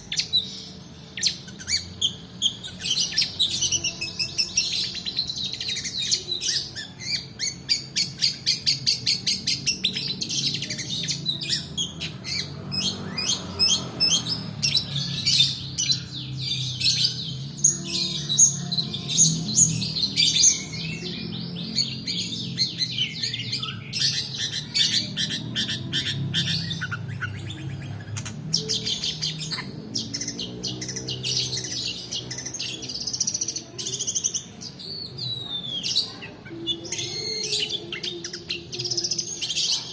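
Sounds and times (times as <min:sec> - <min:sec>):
bird singing trills: 0:00.0 - 0:39.9.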